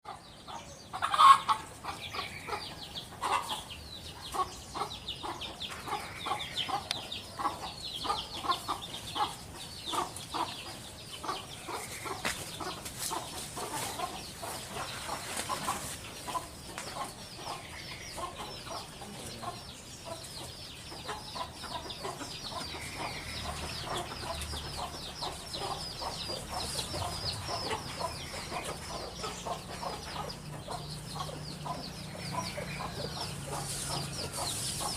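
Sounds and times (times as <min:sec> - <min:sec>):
high bird chirping: 0:00.1 - 0:34.9.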